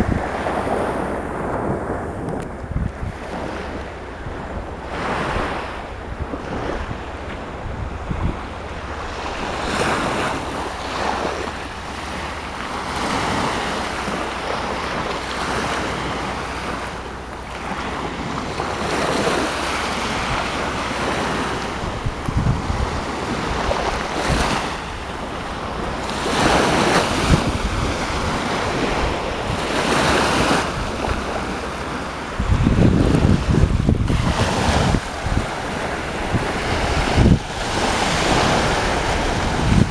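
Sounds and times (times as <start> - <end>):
waves breaking on shore: 0.0 - 39.9
wind rumbling on microphone: 0.0 - 39.9.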